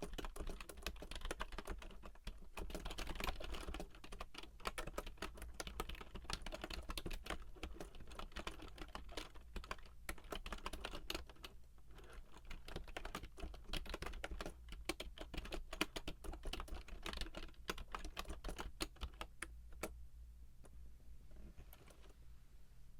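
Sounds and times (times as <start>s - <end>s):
fast typing on keyboard: 0.0s - 19.9s.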